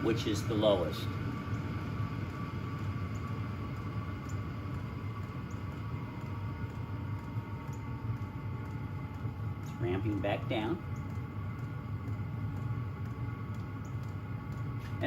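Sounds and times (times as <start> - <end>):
faint whine dropping in pitch: 0.0 - 15.0
heater blower humming: 0.0 - 15.0.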